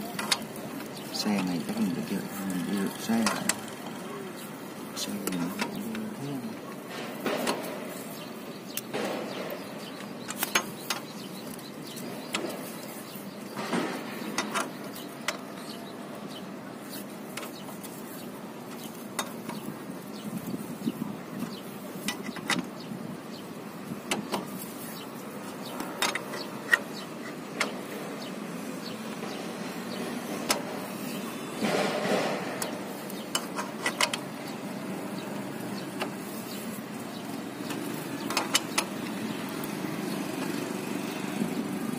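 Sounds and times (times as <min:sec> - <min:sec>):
steady background noise: 0:00.0 - 0:41.9.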